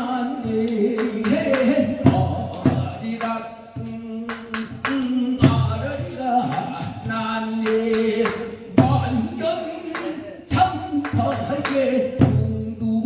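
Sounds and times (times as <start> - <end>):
man singing folk song: 0.0 - 13.0.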